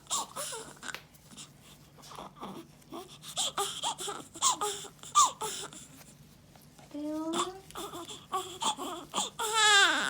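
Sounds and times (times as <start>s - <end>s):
newborn baby crying: 0.0s - 6.0s, 7.3s - 10.0s.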